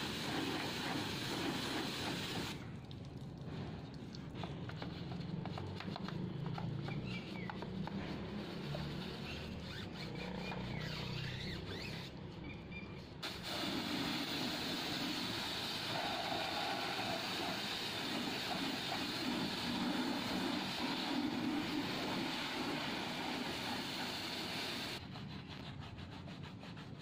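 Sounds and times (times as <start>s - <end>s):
hand scrubbing tyre squeaks: 0.0s - 2.6s, 4.3s - 27.0s
pressure washer water hissing: 0.0s - 2.7s, 3.5s - 12.1s, 13.2s - 25.0s.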